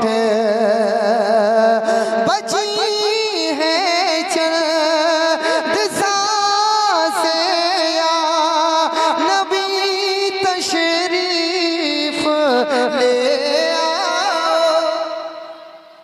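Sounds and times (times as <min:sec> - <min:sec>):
person singing wordless melody: 0:00.0 - 0:16.0.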